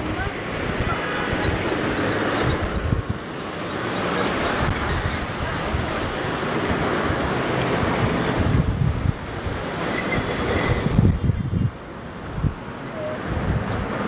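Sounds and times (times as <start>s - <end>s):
cars passing: 0.0s - 14.0s
wind buffeting microphone: 0.0s - 14.0s.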